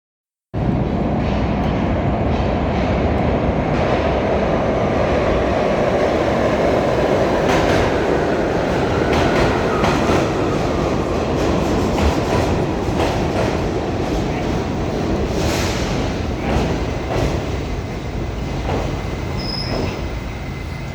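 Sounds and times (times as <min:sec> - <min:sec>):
subway train rumbling: 0:00.6 - 0:20.9.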